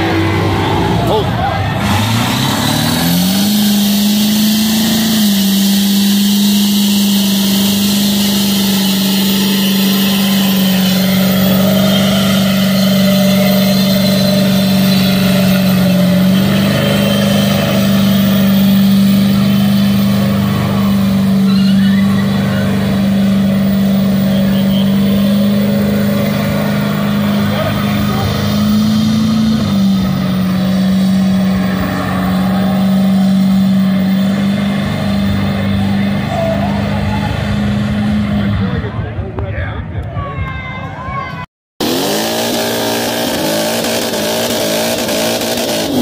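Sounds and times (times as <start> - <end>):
truck engine revving: 0.0 - 39.4, 41.8 - 46.0.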